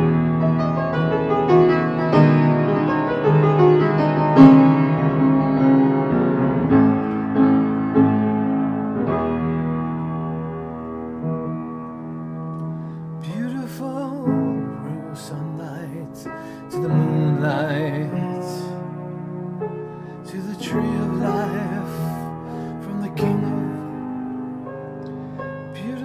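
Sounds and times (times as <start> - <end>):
instrumental piano music: 0.0 - 26.0.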